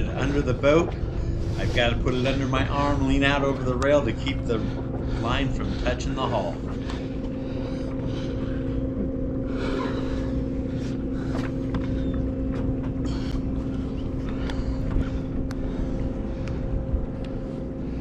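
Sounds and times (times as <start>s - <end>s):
boat machinery humming: 0.0s - 18.0s
low rumble: 0.0s - 18.0s.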